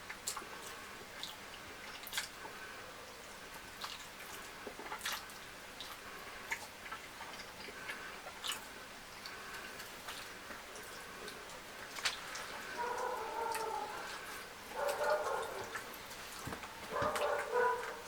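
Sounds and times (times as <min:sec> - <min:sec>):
person chewing food: 0:03.5 - 0:18.0.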